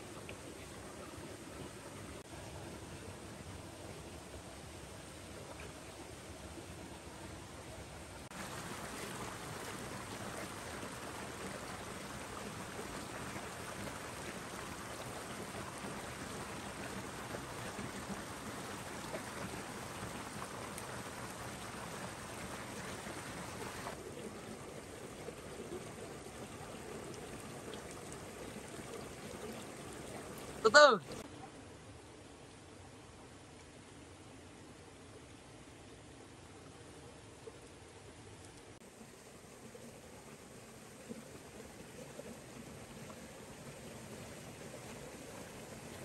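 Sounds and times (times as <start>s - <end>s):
stream flowing over rocks: 0.0s - 46.0s.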